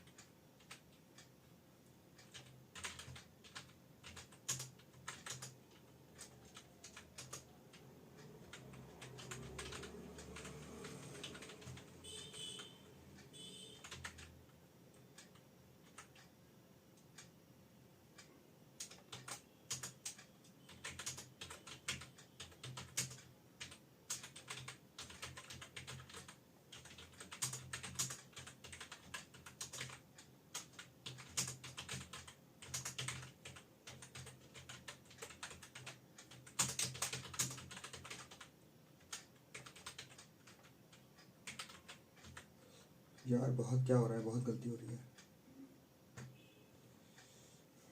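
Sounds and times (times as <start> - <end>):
fast typing on keyboard: 0.0 - 1.0, 2.2 - 12.8, 13.4 - 16.3, 18.8 - 42.5.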